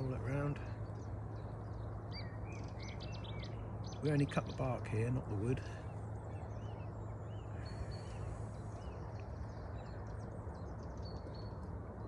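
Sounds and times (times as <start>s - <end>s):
faint bird chirps: 0.0s - 11.7s
low outdoor background noise: 0.0s - 12.0s.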